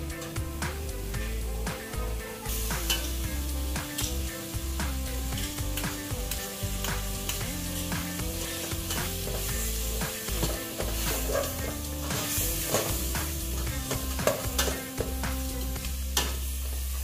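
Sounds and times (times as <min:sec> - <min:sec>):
meat sizzling in a pot: 0:00.0 - 0:17.0
soft background music: 0:00.0 - 0:17.0.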